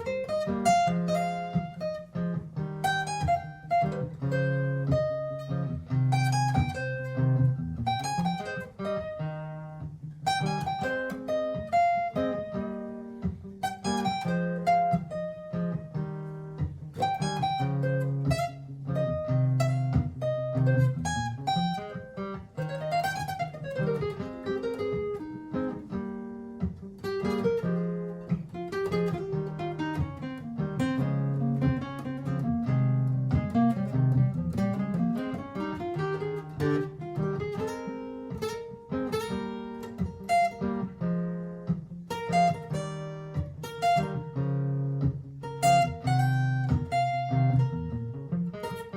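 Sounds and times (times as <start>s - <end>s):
picked guitar lead line: 0.0s - 48.9s
strummed acoustic guitar chords: 0.0s - 48.9s.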